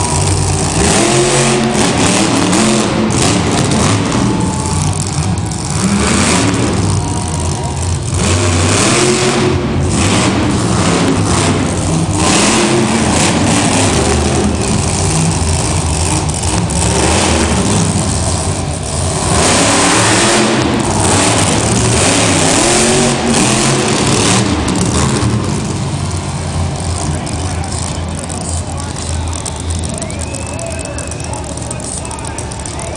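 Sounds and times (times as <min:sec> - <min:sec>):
monster truck engine revving: 0:00.0 - 0:32.9.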